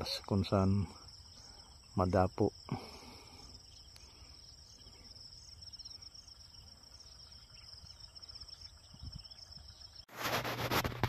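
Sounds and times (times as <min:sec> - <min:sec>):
crickets chirring: 0:00.0 - 0:10.1.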